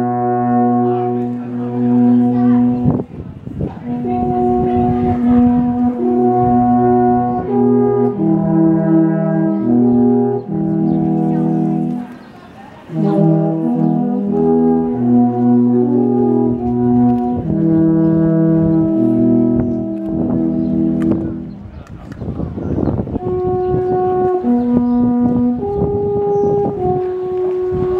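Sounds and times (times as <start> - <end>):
alphorns playing in harmony: 0.0 - 12.2, 12.8 - 21.8, 23.0 - 27.9.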